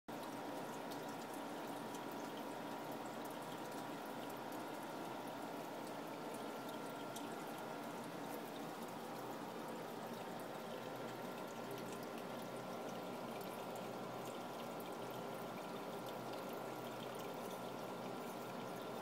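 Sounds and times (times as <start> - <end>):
faint drip ticks: 0.1 - 19.0
faint steady hum: 0.1 - 19.0
water trickling into tank: 0.1 - 19.0.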